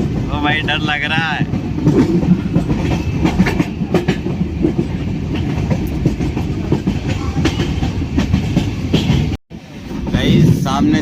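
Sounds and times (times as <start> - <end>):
train clatter and knocks: 0.0 - 11.0
train wheels rumbling on track: 0.0 - 11.0.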